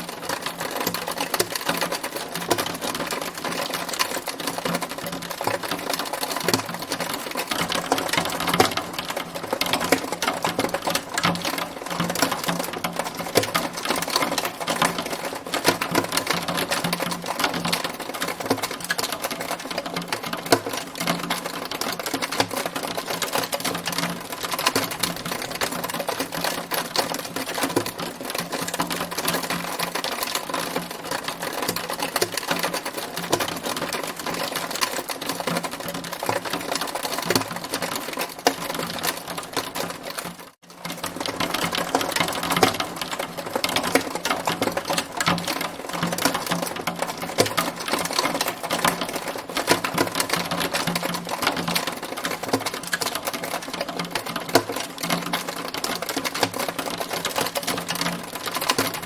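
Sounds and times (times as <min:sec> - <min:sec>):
hailstones clattering: 0:00.0 - 0:59.0.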